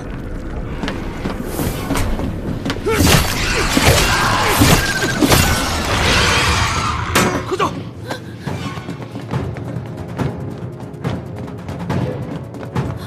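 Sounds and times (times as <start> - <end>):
film music score: 0.0 - 13.0.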